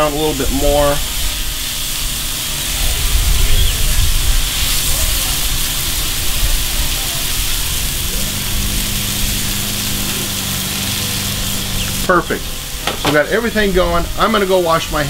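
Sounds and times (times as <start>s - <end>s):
burger patties sizzling on griddle: 0.0s - 15.0s.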